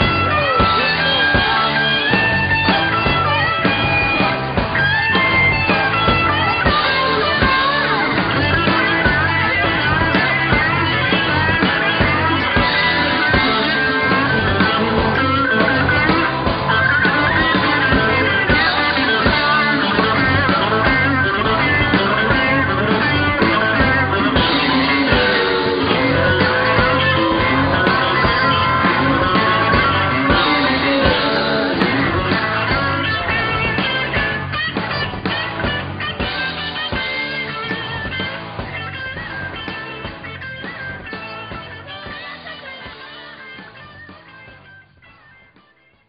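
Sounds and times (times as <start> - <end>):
guitar-led rock music: 0.0 - 46.0.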